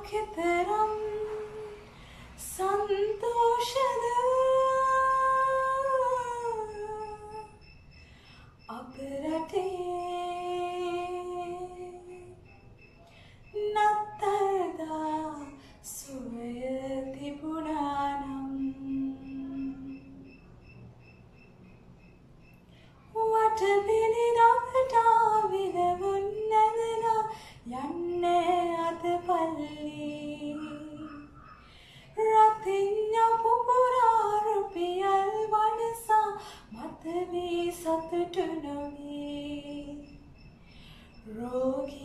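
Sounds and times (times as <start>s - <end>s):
woman singing unaccompanied: 0.0s - 7.7s, 8.7s - 12.5s, 13.5s - 20.3s, 23.1s - 31.4s, 32.1s - 40.3s, 41.2s - 42.0s.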